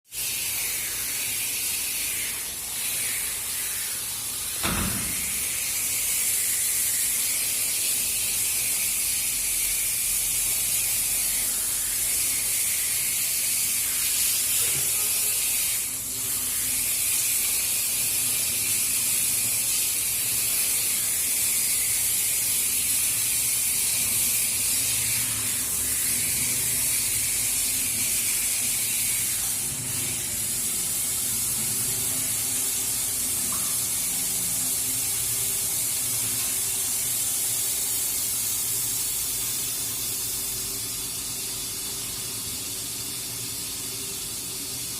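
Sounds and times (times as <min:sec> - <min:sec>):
running water spraying: 0:00.1 - 0:44.9.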